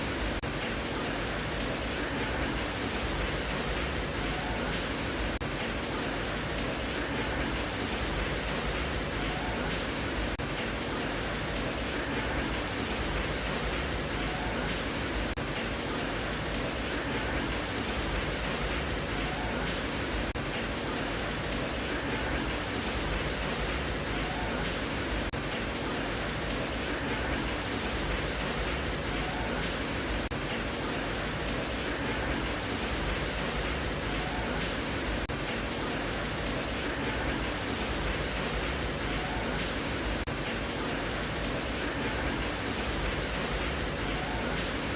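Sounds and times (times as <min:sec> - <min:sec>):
steady rain hiss: 0:00.0 - 0:44.9.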